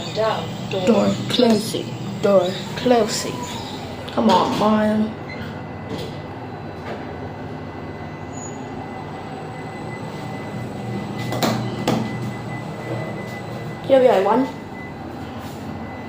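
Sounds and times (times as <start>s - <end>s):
lift car hum and rumble: 0.0s - 16.0s.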